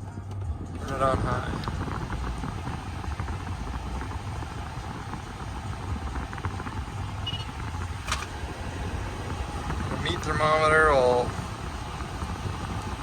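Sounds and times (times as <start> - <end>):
air rushing from vents: 0.5 - 13.0
car engine idling: 0.5 - 13.0.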